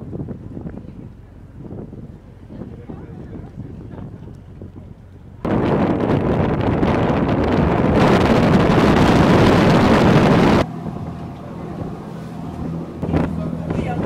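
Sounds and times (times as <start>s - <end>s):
boat engine droning: 0.0s - 14.0s
wind buffeting microphone: 0.0s - 14.0s.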